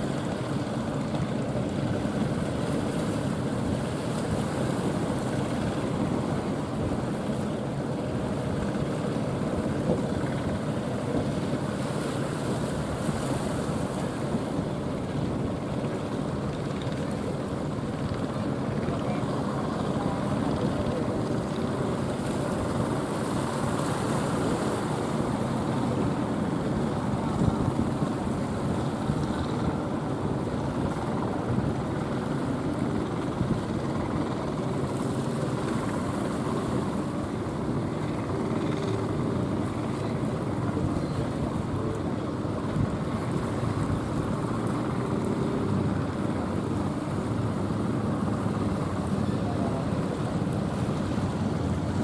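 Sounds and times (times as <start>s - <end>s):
rough surf: 0.0s - 52.0s
small boat engines: 0.0s - 52.0s
wind on microphone: 0.0s - 52.0s.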